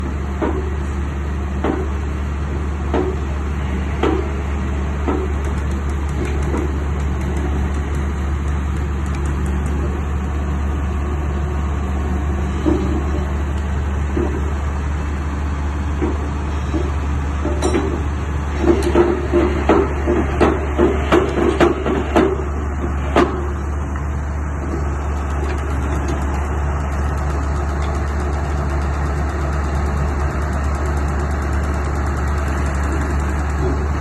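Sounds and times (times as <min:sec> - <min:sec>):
excavator diesel engine humming: 0:00.0 - 0:34.0.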